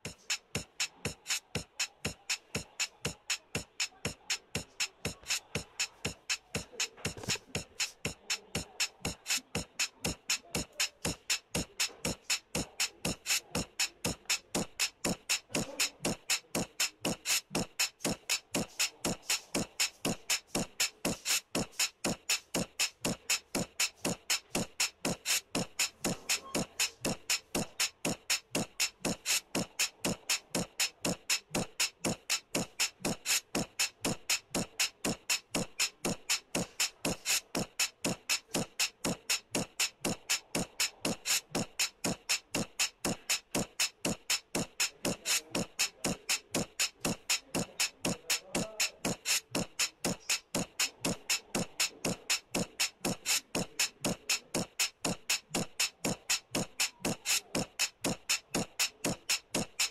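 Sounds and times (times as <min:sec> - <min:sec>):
fast clicky percussion beat: 0:00.0 - 0:59.9.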